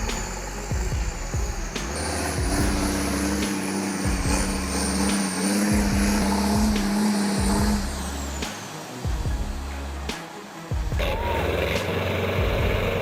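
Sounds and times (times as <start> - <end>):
heavy machine engine drone: 0.0 - 13.0.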